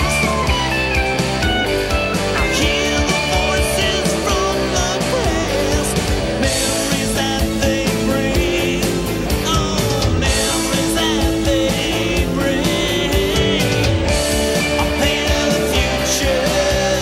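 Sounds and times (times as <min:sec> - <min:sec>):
psychedelic rock band playing: 0:00.0 - 0:17.0.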